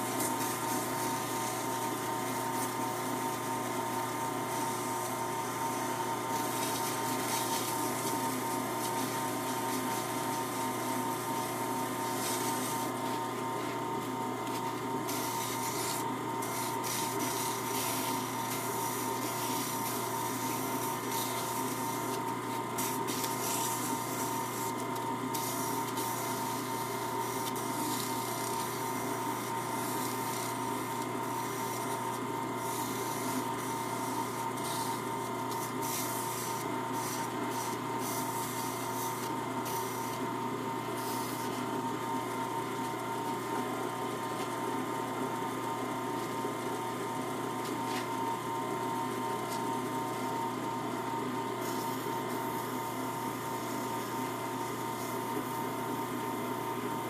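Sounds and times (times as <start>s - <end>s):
lathe motor humming: 0.0s - 57.0s.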